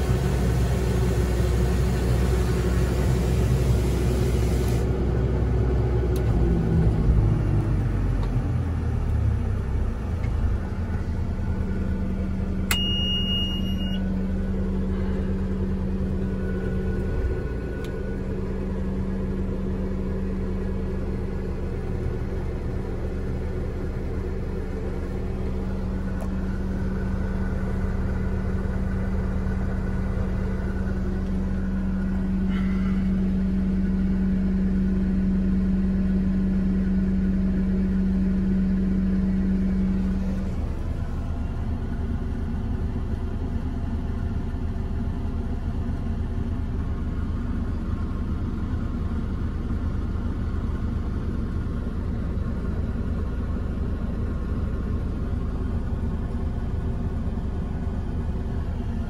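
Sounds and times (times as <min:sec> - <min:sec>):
street sweeper engine drone: 0:00.0 - 0:59.0.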